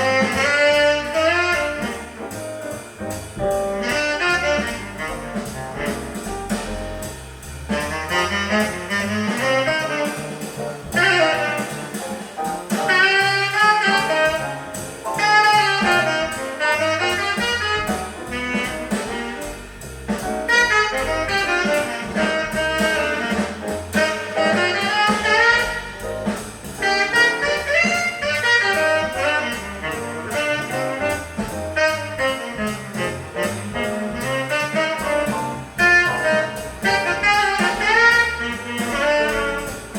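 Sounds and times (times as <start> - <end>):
jazz with saxophone and brass: 0.0 - 39.9.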